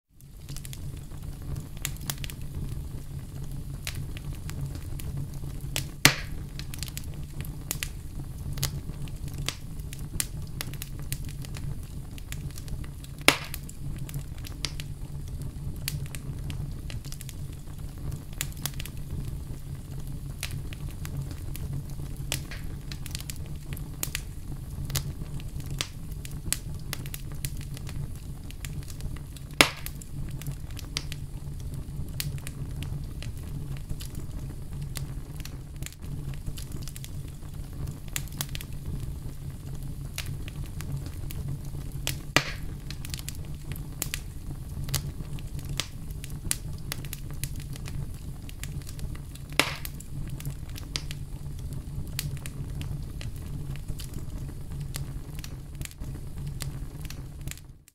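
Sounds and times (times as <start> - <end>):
fireplace fire crackling: 0.1 - 57.9
low rumble of flames: 0.1 - 57.9
loud fire pops: 0.2 - 57.9.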